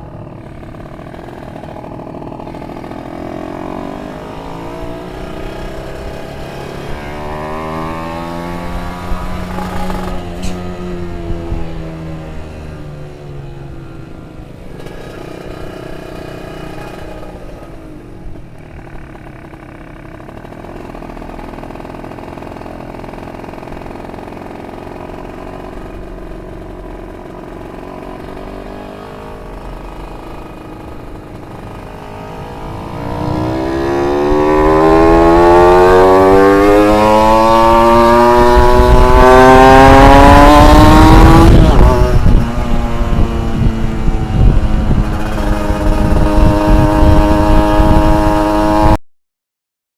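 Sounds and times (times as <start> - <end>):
two-stroke engine revving: 0.0 - 49.0.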